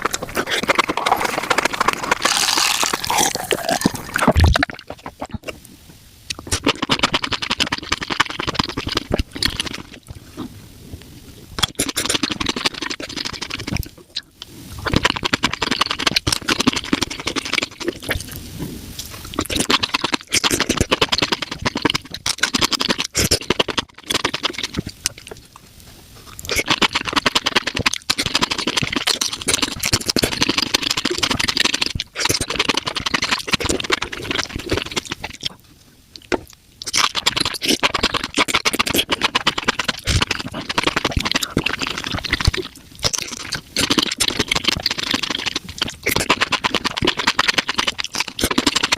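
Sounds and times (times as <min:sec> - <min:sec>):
wet chewing and crunching: 0:00.0 - 0:05.6, 0:06.3 - 0:10.6, 0:11.6 - 0:18.4, 0:19.0 - 0:48.9
mouth clicks and smacks: 0:00.0 - 0:05.7, 0:06.3 - 0:18.4, 0:19.0 - 0:25.7, 0:26.3 - 0:48.9
slurping: 0:00.0 - 0:05.7, 0:06.3 - 0:10.6, 0:11.5 - 0:25.6, 0:26.3 - 0:35.6, 0:36.2 - 0:48.9.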